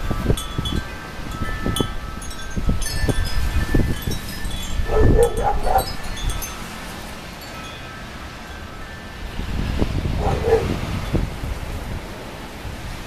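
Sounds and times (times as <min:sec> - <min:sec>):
wind chimes ringing: 0:00.0 - 0:11.3
wind rumble buffeting microphone: 0:00.0 - 0:13.0.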